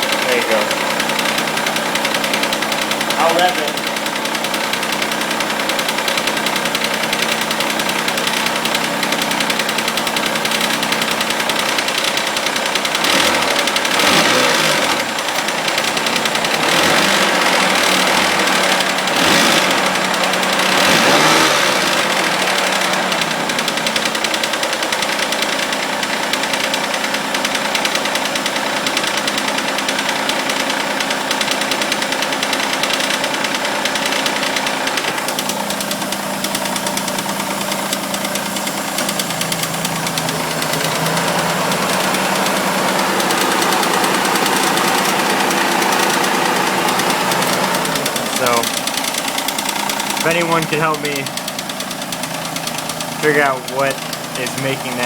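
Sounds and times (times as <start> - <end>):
car engine idling with clank: 0.0 - 55.0
engine revving: 0.0 - 55.0.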